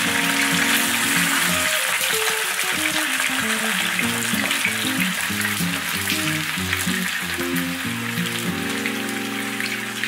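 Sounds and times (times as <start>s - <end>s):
background music: 0.0s - 10.0s
potatoes sizzling in oil: 0.0s - 10.0s.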